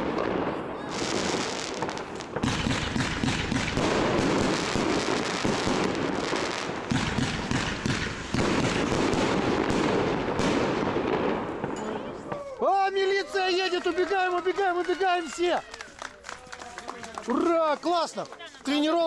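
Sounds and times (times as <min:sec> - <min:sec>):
fireworks popping and crackling: 0:00.0 - 0:19.0.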